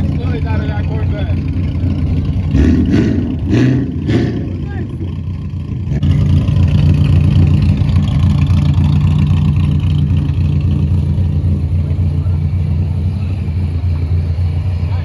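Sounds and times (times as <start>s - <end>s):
car engine running loudly: 0.0s - 15.0s.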